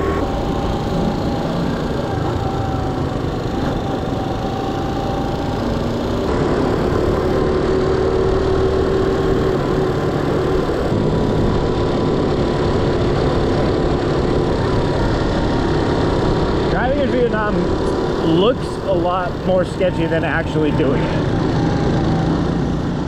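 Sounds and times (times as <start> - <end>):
motorbike engine running: 0.0 - 23.0.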